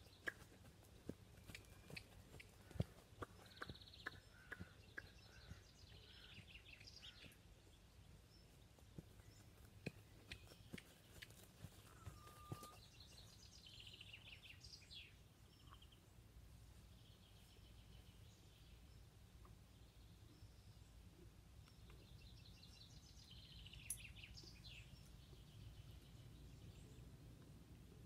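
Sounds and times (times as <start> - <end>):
small birds calling and trilling: 0.0 - 28.0.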